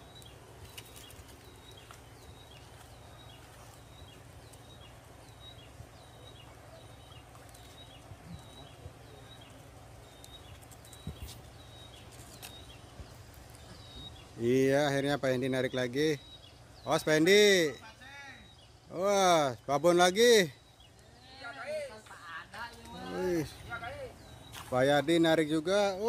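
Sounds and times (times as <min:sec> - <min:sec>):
faint outdoor background: 0:00.0 - 0:26.0.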